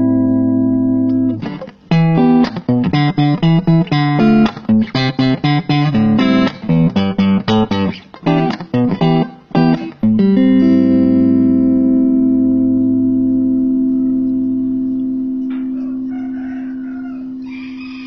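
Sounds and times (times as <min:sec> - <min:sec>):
electric guitar chords: 0:00.0 - 0:15.8.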